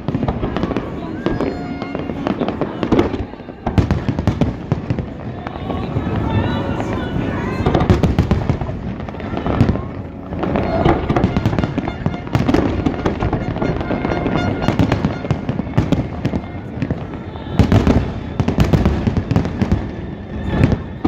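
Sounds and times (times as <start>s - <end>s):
fireworks bangs and booms: 0.0s - 21.0s
fireworks crackling: 0.0s - 21.0s.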